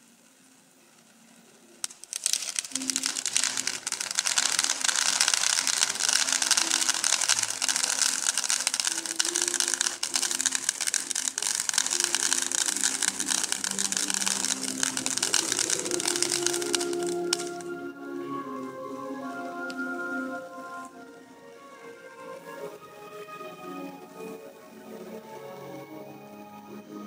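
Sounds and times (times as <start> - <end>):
firework fountains crackling hiss: 0.0 - 25.8.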